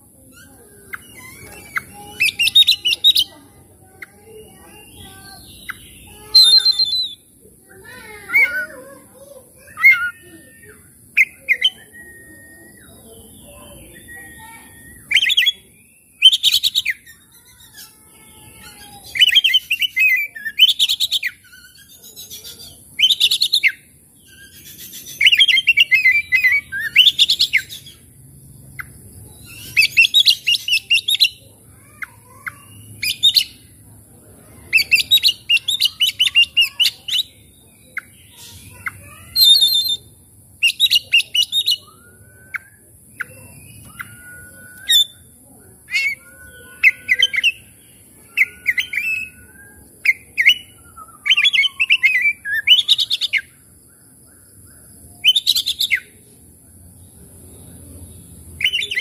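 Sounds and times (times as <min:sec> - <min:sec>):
bird singing chattering notes: 0:00.0 - 0:33.8, 0:34.5 - 0:56.2, 0:57.1 - 0:59.0.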